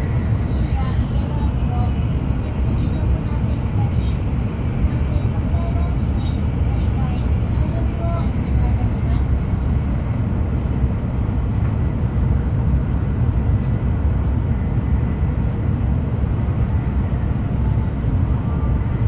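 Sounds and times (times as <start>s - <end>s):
train low rumble from inside cabin: 0.0s - 19.0s.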